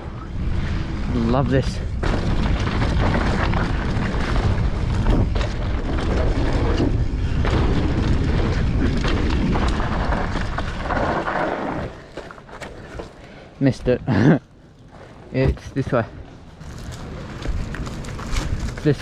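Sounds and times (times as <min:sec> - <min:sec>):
wind buffeting microphone: 0:00.0 - 0:12.2, 0:14.9 - 0:19.0
bike tyre roar: 0:00.0 - 0:19.0
bike knocks and rattles: 0:01.3 - 0:13.2, 0:14.9 - 0:19.0.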